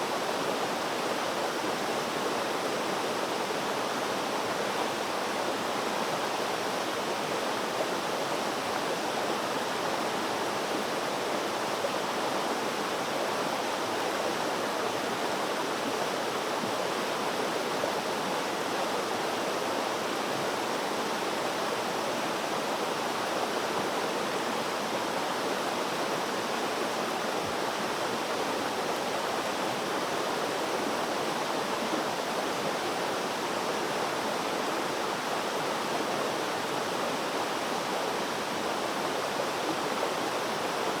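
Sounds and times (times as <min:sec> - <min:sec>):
stream water flowing: 0:00.1 - 0:41.0.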